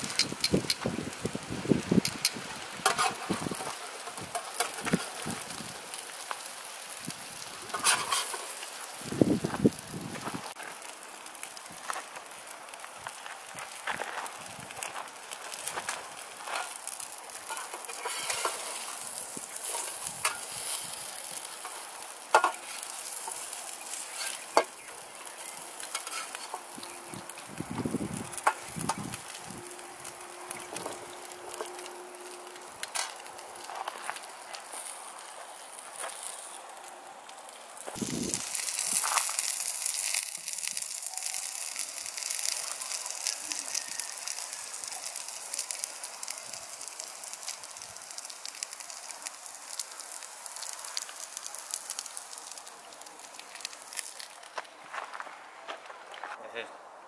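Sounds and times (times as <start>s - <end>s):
food sizzling in a pan: 0.0s - 54.6s.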